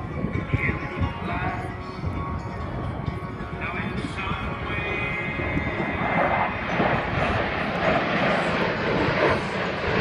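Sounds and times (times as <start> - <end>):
aircraft flying past: 1.4 - 10.0.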